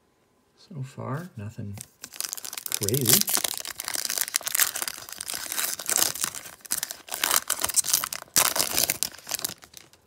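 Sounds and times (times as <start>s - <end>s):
plastic wrapper crinkling and tearing: 1.7s - 10.0s.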